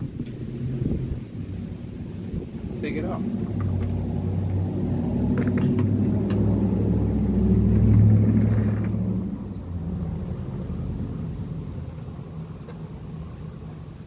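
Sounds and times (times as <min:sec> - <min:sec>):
passing vehicle engine rumble: 0:00.0 - 0:14.0.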